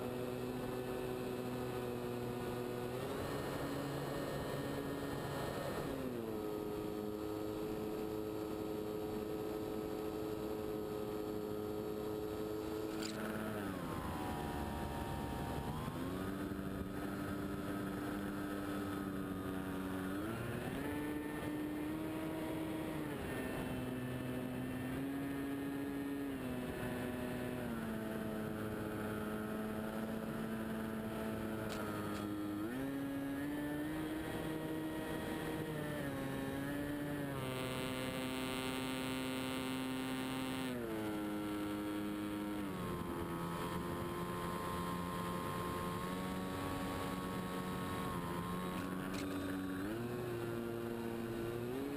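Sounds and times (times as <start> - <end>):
model plane motor and propeller drone: 0.0 - 51.9.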